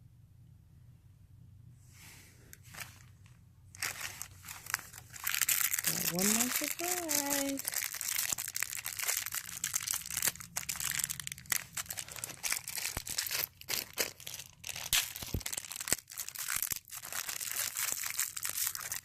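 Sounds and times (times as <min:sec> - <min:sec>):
plastic wrapping crinkling and tearing: 0:02.6 - 0:19.0.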